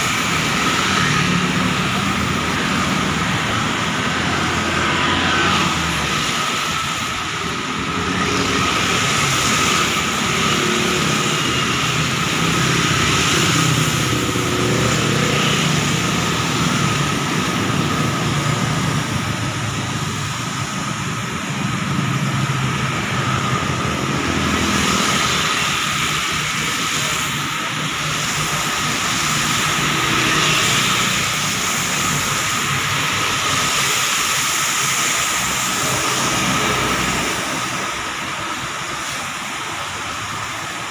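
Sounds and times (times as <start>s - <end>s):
bus engines passing: 0.0s - 40.9s
motorcycles passing: 0.0s - 40.9s
tyres hissing on wet road: 0.0s - 40.9s.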